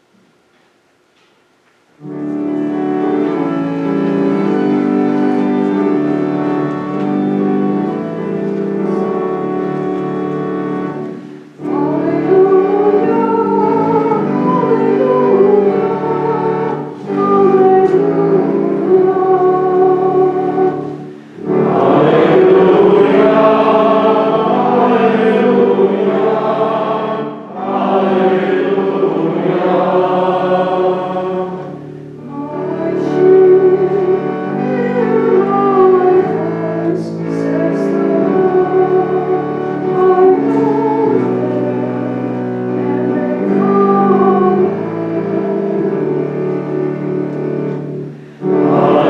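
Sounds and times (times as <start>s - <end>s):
church choir singing: 2.0s - 49.0s
instrumental accompaniment: 2.0s - 49.0s.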